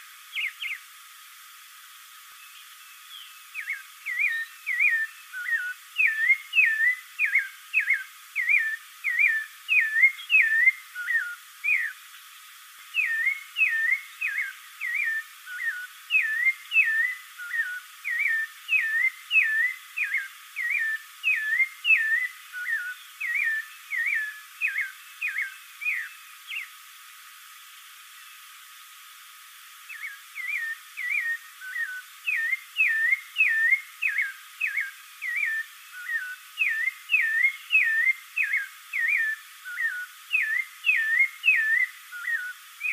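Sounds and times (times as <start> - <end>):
thrush singing whistled notes: 0.0 - 0.9, 2.3 - 12.0, 12.9 - 26.8, 29.8 - 42.9
faint hiss: 0.0 - 42.9.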